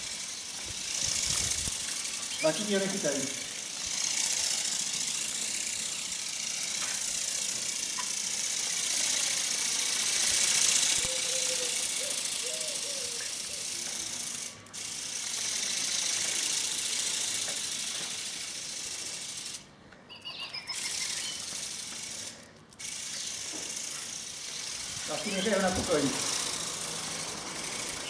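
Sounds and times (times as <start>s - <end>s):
mechanical buzz of motor and wings: 0.0s - 28.0s.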